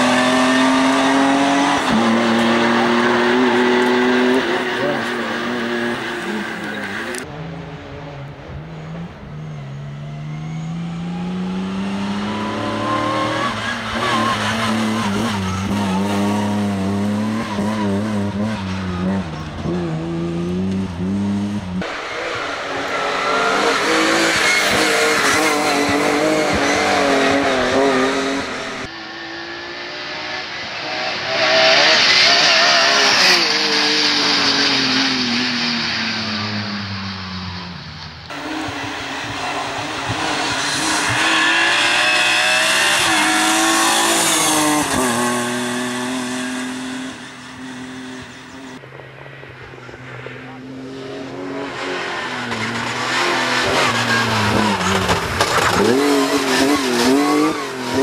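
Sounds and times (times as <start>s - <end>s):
rally car engine revving: 0.0s - 48.8s, 49.8s - 58.0s
tyre and road noise: 0.0s - 58.0s.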